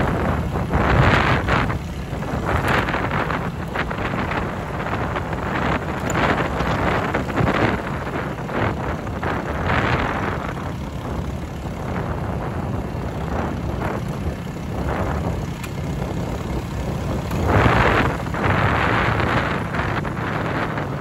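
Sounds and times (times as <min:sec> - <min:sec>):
motorbike engine running: 0:00.0 - 0:21.0
wind buffeting microphone: 0:00.0 - 0:21.0.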